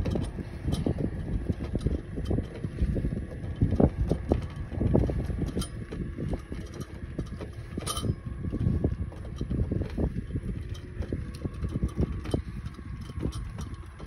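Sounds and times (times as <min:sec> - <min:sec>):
robotic mower whine: 0:00.0 - 0:14.0
treaded wheels rumbling: 0:00.0 - 0:14.0
wind on microphone: 0:00.0 - 0:14.0.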